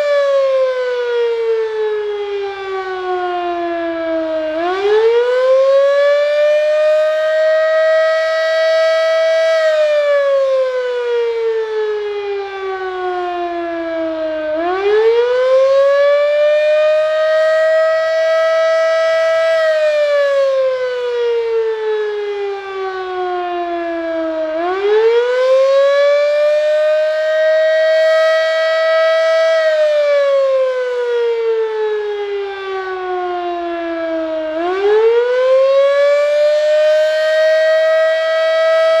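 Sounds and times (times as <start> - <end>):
fire siren wailing up and down: 0.0 - 39.0.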